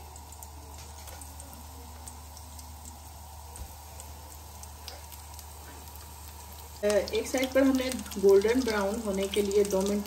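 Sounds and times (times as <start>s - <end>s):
frying sizzle with crackles: 0.0s - 10.0s.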